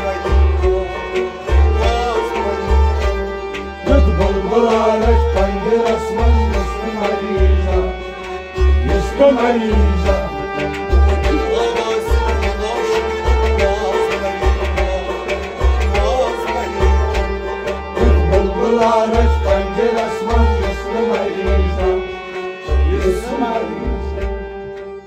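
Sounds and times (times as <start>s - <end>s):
hand drum beating: 0.0s - 8.0s, 8.6s - 22.1s
man singing: 0.0s - 24.6s
harmonium chords: 0.0s - 25.0s.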